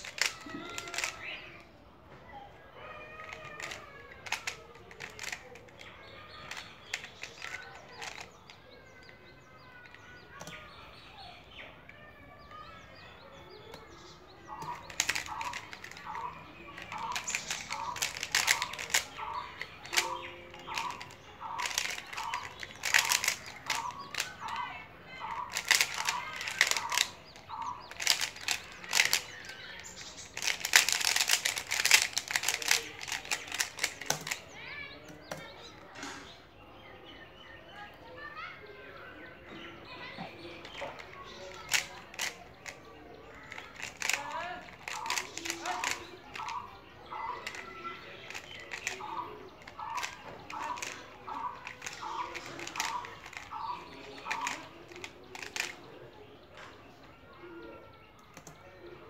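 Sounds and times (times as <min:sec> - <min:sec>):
plastic puzzle clicks and clacks: 0:00.0 - 0:01.6, 0:03.0 - 0:10.8, 0:13.6 - 0:36.3, 0:40.0 - 0:56.8
birds chirping: 0:00.0 - 0:59.0.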